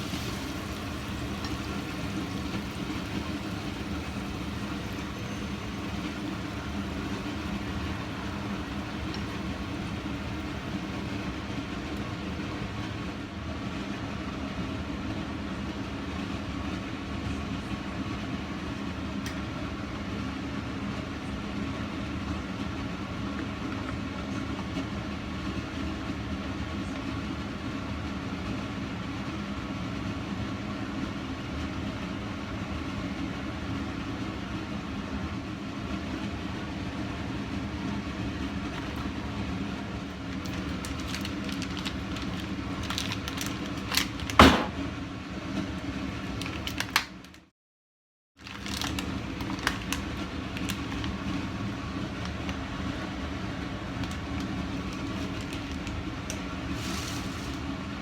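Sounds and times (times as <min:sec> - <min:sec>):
low mechanical hum and rumble: 0:00.0 - 0:47.5, 0:48.4 - 0:58.0.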